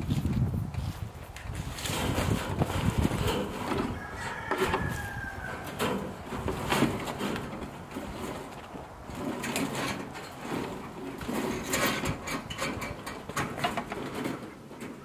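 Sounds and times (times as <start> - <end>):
wire fencing rattling and scraping: 0.2 - 15.0.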